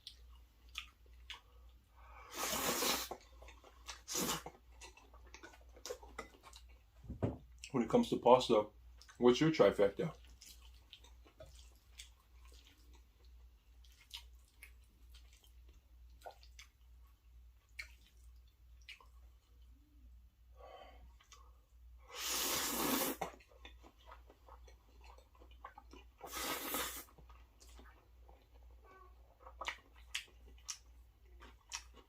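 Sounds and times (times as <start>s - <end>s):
person chewing pasta: 0.0s - 7.7s, 10.1s - 20.1s, 20.8s - 32.0s.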